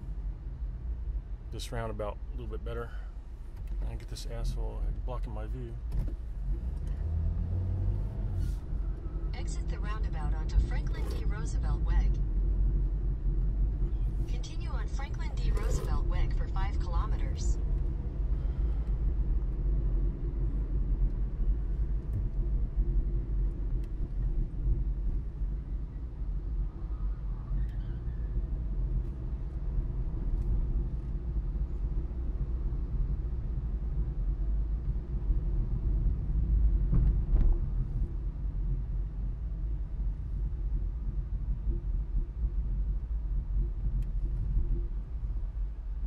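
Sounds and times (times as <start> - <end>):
car driving on road: 0.0 - 46.0.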